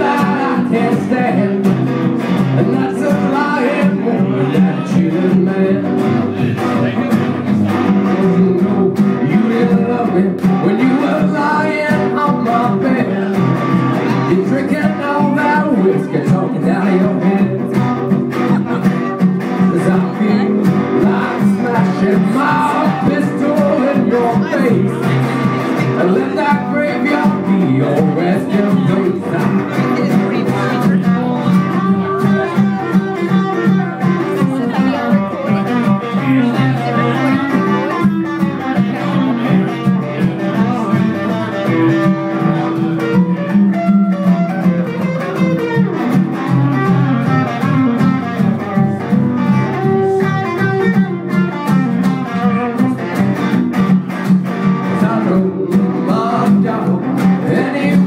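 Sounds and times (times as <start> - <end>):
acoustic guitar playing: 0.0 - 58.0
electric guitar playing blues: 0.0 - 58.0.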